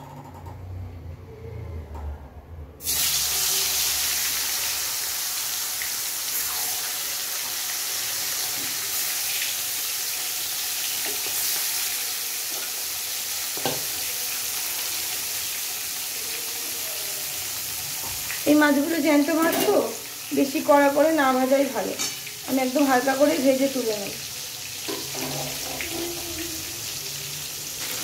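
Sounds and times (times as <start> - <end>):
fish sizzling in hot oil: 2.8 - 28.0.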